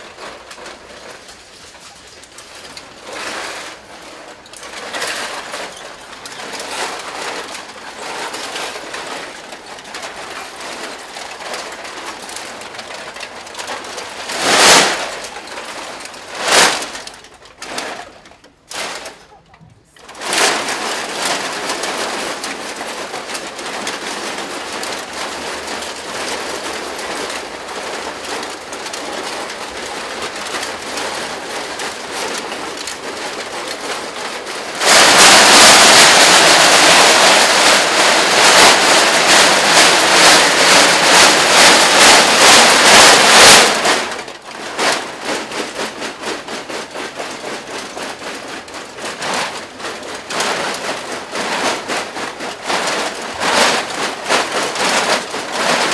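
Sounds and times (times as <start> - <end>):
aluminium cans clattering: 0.1 - 55.9.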